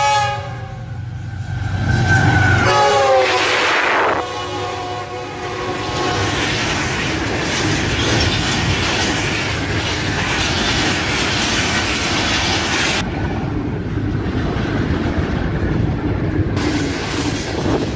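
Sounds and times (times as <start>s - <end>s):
train passing at speed: 0.0s - 17.9s.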